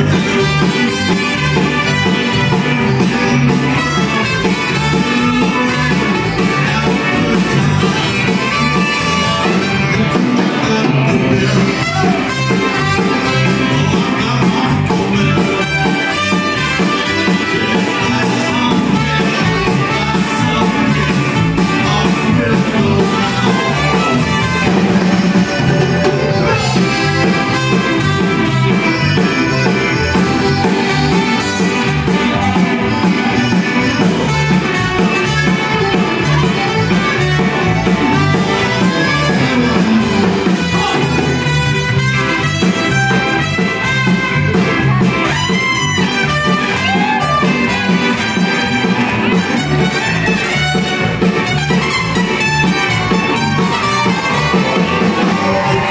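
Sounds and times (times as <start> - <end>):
trumpet: 0.0 - 10.2, 11.6 - 55.9
accordion: 0.0 - 55.9
drum kit: 0.0 - 55.9
electric guitar: 0.0 - 55.9
keyboard: 0.0 - 55.9.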